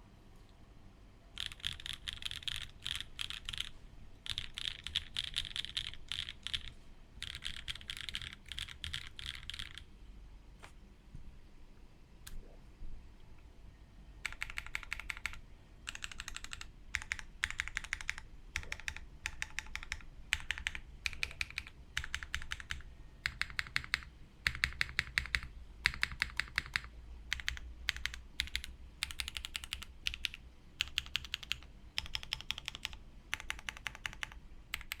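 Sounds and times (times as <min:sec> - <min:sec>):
mechanical keyboard typing: 0:01.4 - 0:09.9, 0:14.2 - 0:35.0.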